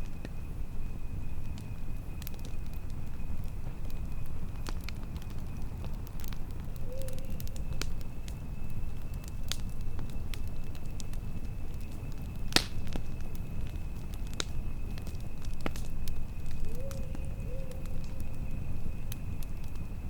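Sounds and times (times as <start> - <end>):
campfire crackling: 0.0 - 20.0
low rumble of wind: 0.0 - 20.0.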